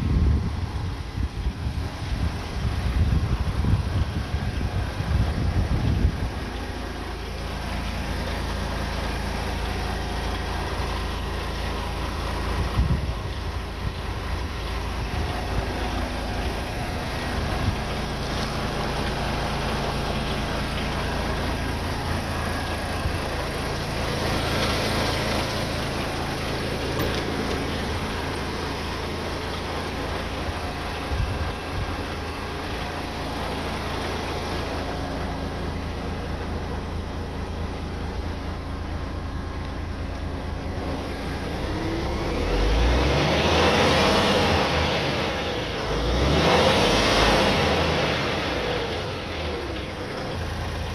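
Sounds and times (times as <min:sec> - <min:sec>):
truck diesel engine running: 0:00.0 - 0:50.9.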